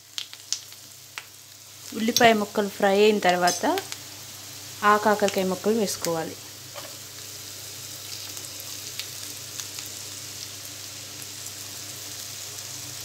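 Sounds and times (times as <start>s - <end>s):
hot oil sizzling in a frying pan: 0.0s - 13.0s.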